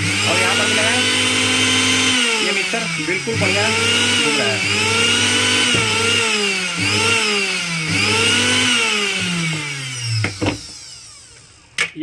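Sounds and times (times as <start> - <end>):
motor spinning with high whine: 0.0 - 11.8.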